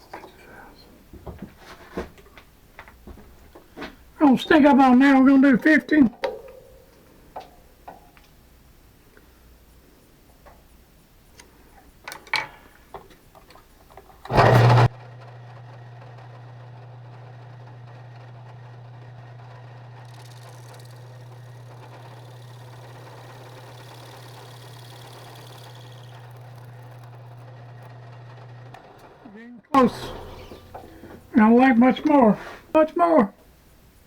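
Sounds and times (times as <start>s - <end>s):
electric motor humming: 6.2s - 34.0s.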